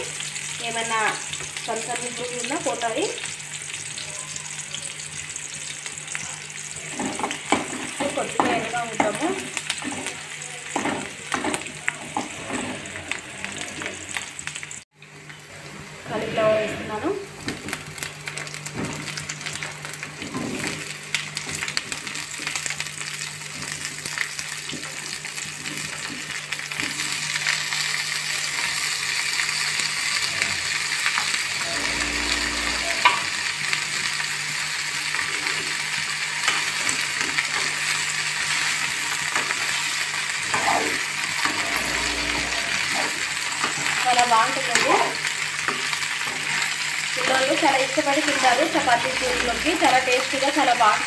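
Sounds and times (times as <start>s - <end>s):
vegetables sizzling in hot oil: 0.0s - 16.3s, 16.9s - 51.0s.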